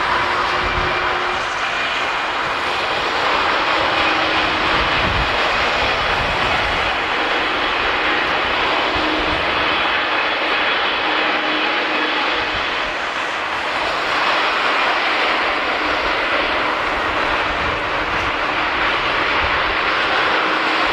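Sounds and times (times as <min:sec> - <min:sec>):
jet engines rushing: 0:00.0 - 0:20.9.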